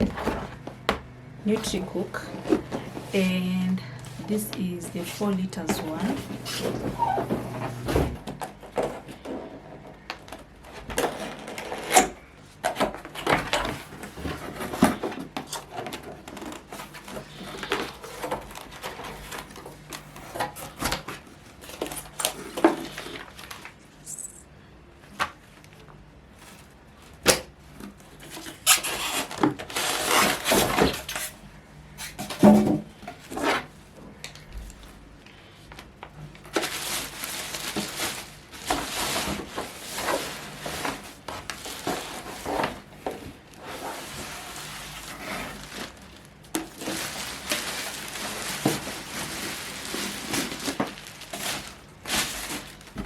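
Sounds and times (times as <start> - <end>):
cardboard packaging rustling: 0.0 - 24.4, 26.2 - 35.0, 35.7 - 53.0.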